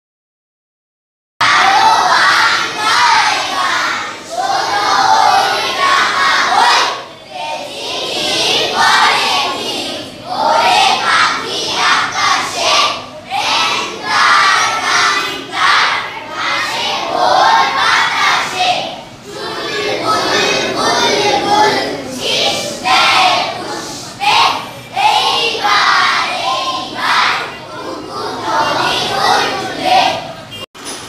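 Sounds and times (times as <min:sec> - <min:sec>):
children's voices in unison: 0:01.4 - 0:30.6.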